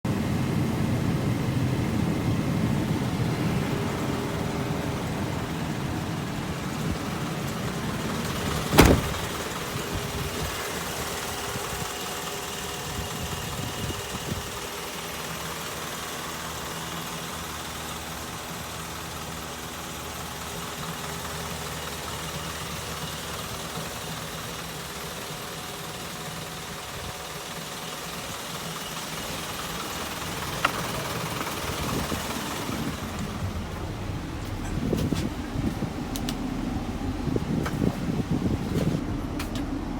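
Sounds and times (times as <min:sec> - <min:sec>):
truck engine idling: 0:00.1 - 0:39.9.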